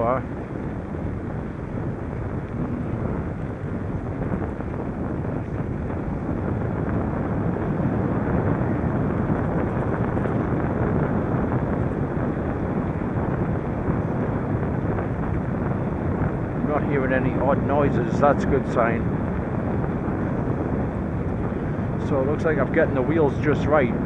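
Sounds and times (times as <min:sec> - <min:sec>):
bicycle tyres rumbling on road: 0:00.0 - 0:24.0
wind rushing over microphone: 0:00.0 - 0:24.0.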